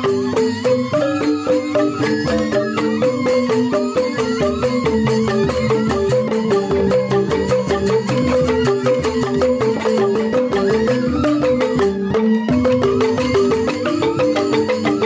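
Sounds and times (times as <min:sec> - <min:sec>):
bamboo flute holding tones: 0:00.0 - 0:15.0
bamboo xylophones fast melody: 0:00.0 - 0:15.0.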